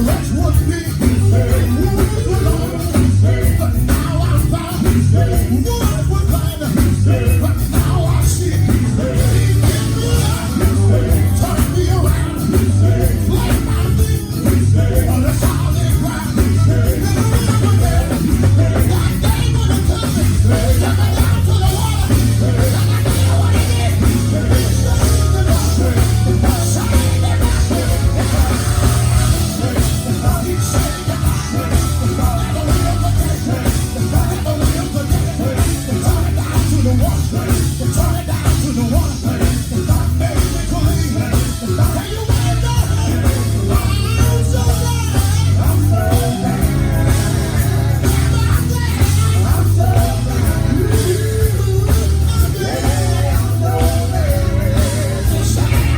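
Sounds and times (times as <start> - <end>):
live gospel band: 0.0 - 55.9
people singing: 0.0 - 55.9.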